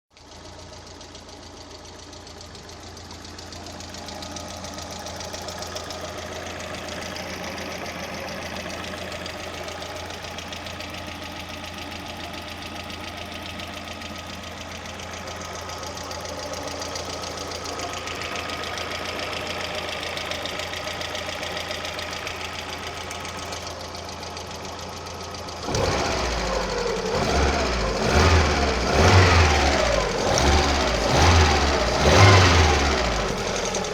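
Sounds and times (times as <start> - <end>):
engine with ticking valve lifters: 0.1 - 33.9.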